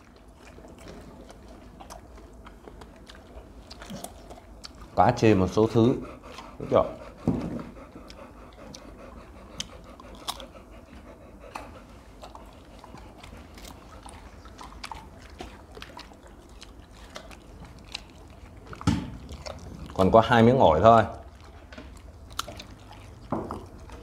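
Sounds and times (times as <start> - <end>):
crunching while chewing fruit: 0.0 - 6.8, 7.6 - 24.0.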